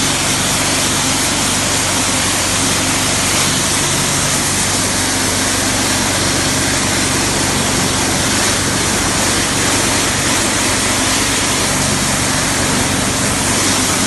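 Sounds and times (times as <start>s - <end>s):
pressure washer motor humming: 0.0s - 14.0s
water jet hissing on artificial grass: 0.0s - 14.0s.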